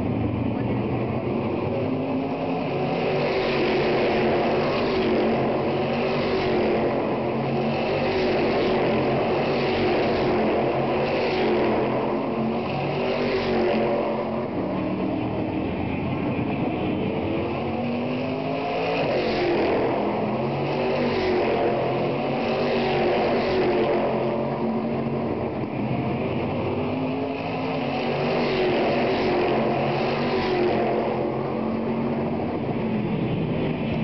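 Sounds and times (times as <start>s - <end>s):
race car engines passing: 0.0s - 34.0s.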